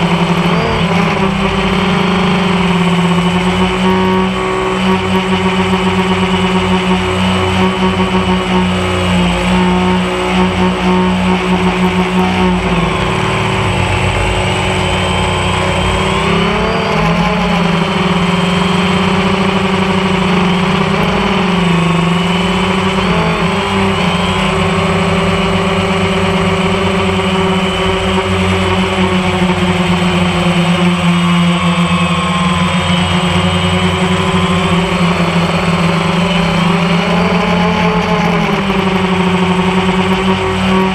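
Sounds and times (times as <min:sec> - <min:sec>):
drone buzzing hum: 0:00.0 - 0:40.9.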